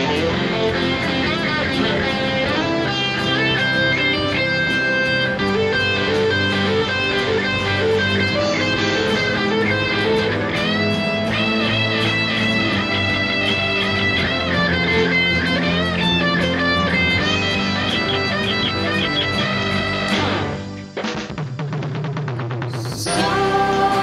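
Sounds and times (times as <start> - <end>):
electric guitar solo: 0.0 - 20.9, 22.7 - 24.0
chord and bass accompaniment: 0.0 - 21.2, 22.9 - 24.0.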